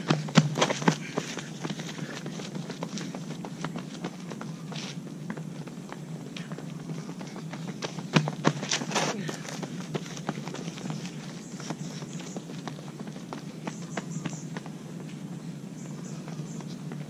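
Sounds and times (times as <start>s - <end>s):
running footsteps on concrete: 0.0s - 17.0s.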